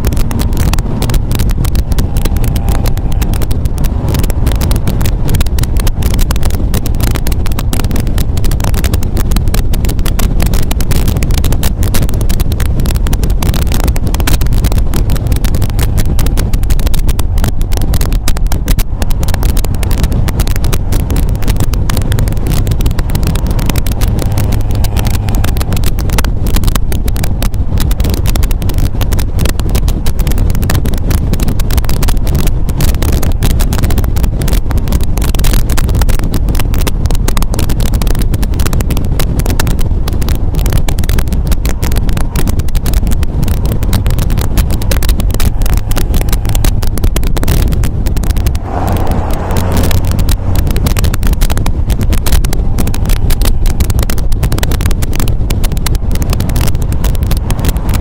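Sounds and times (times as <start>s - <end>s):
car engine rumbling: 0.0s - 58.0s
wind buffeting microphone: 0.0s - 58.0s.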